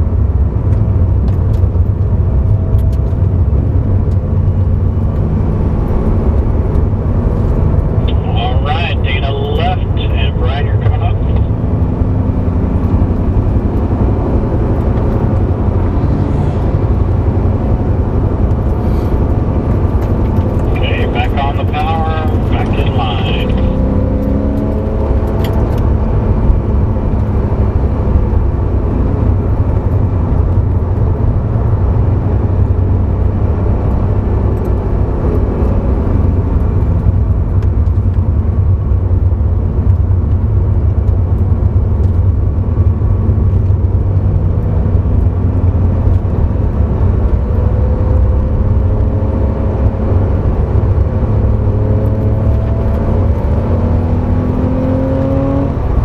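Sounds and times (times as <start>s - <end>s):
road and wind noise: 0.0s - 56.0s
sports car engine accelerating: 0.0s - 56.0s.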